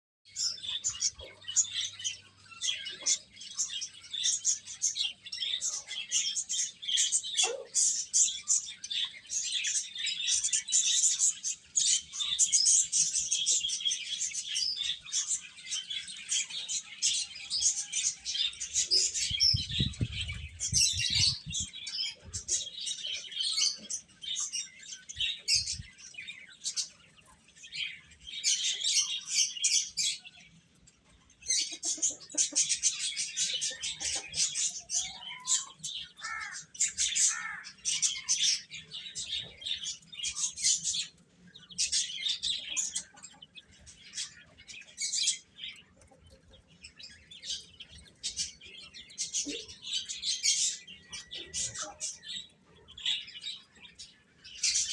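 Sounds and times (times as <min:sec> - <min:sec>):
baby chicks peeping: 0:00.3 - 0:54.9.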